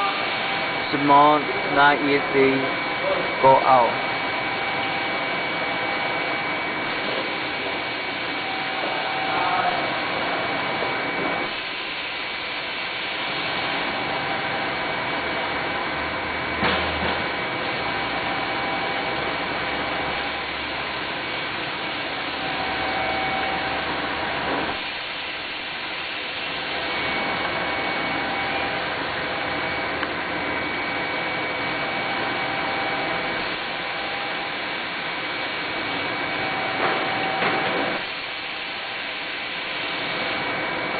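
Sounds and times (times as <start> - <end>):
air blower whining: 0.0 - 40.9.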